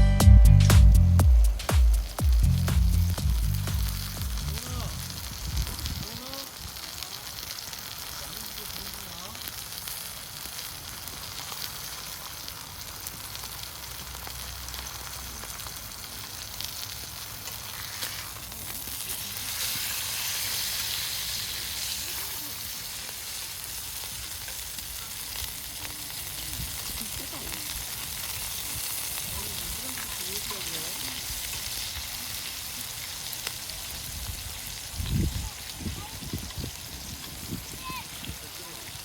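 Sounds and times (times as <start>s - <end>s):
meat sizzling on grill: 1.3s - 39.0s.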